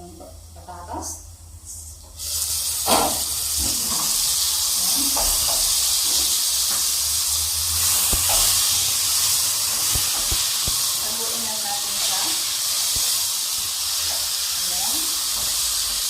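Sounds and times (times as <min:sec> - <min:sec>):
pot sizzling loudly: 0:02.1 - 0:16.0.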